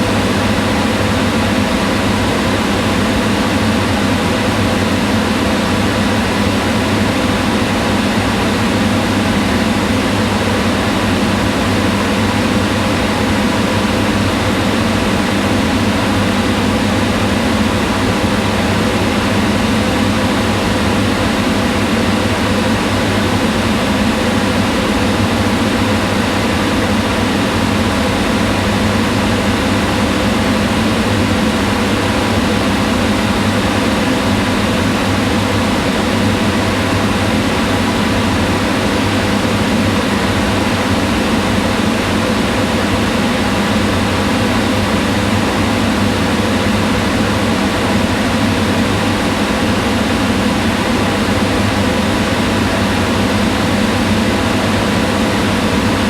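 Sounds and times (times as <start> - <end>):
range hood exhaust fan whirring: 0.0 - 56.0.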